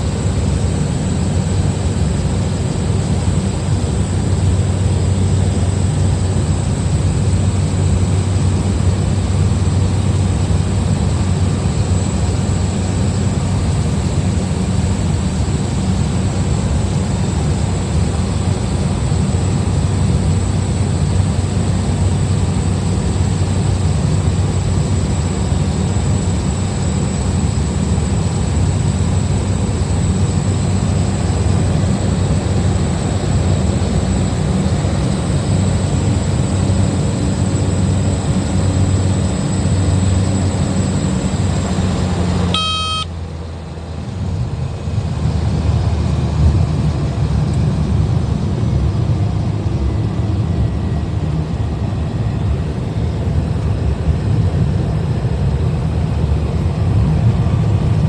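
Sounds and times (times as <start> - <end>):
small plane engine drone: 0.0 - 58.0.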